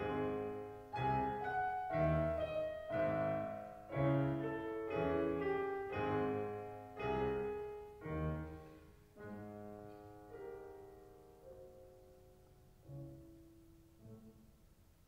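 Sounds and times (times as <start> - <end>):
slow classical piano piece: 0.0 - 15.0.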